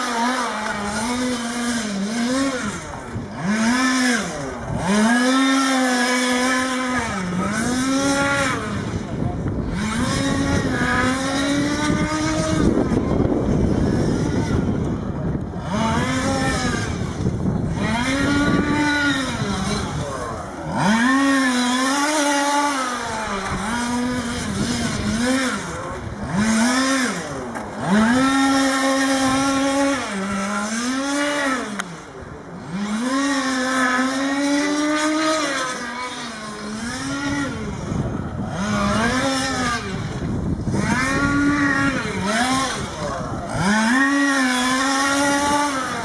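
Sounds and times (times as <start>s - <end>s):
small two-stroke engine buzzing: 0.0s - 46.0s.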